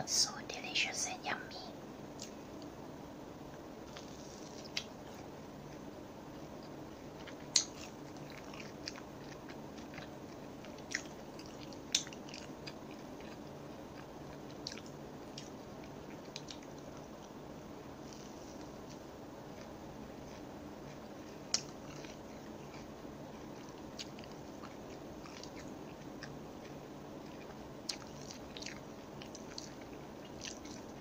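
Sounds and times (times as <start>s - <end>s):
steady low hum: 0.0s - 31.0s
crunchy food chewing: 3.5s - 31.0s.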